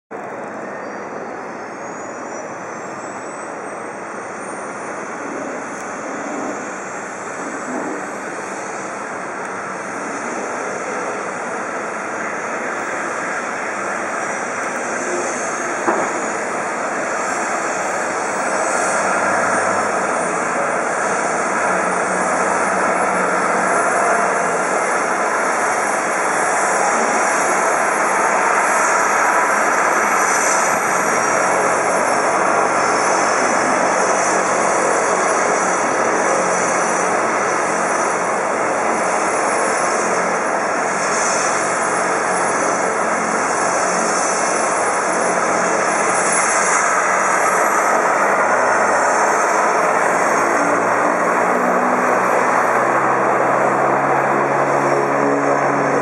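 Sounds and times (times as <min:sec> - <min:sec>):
helicopter engine and rotor: 0:00.1 - 0:56.0
helicopter turbine whine: 0:00.1 - 0:56.0.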